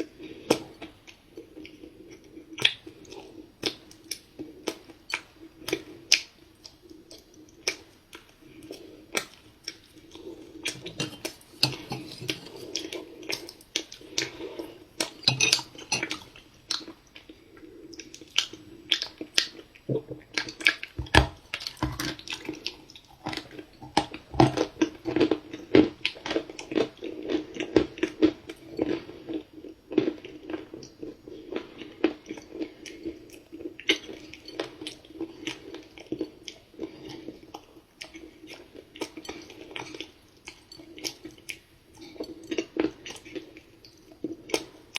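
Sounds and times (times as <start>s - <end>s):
chewing crunchy cookies: 0.0s - 44.9s.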